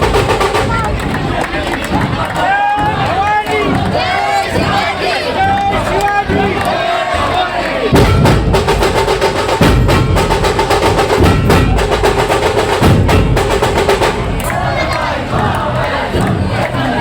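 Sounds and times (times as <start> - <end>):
band drums fast beat: 0.0 - 17.0.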